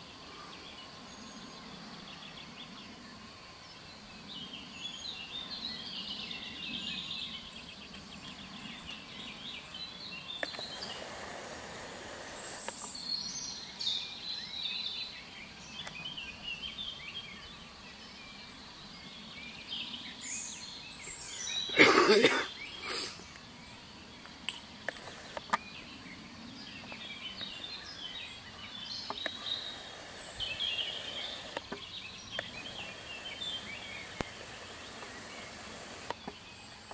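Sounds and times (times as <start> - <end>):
outdoor background hiss: 0.0 - 36.9
small birds chirping: 0.0 - 36.9.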